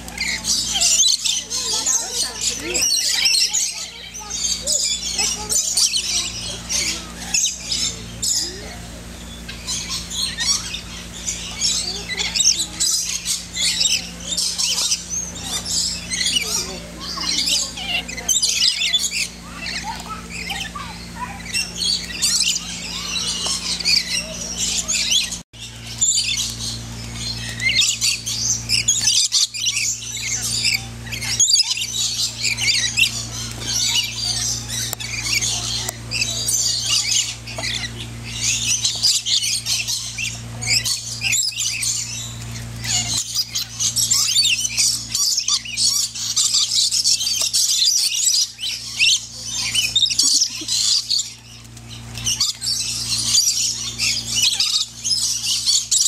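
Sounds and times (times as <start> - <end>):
lorikeets screeching and chattering: 0.0 - 56.0
steady low hum: 0.0 - 56.0.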